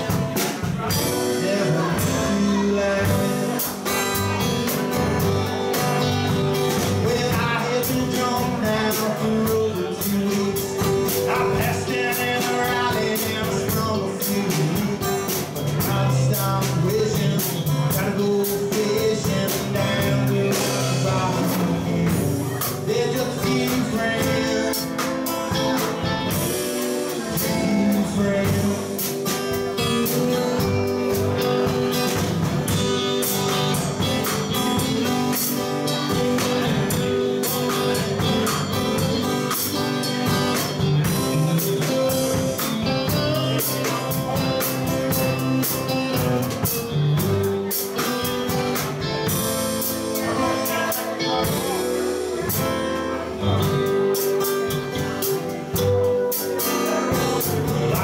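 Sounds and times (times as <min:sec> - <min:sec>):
acoustic guitar: 0:00.0 - 0:58.0
drum kit: 0:00.0 - 0:58.0
electric lead guitar: 0:00.0 - 0:58.0.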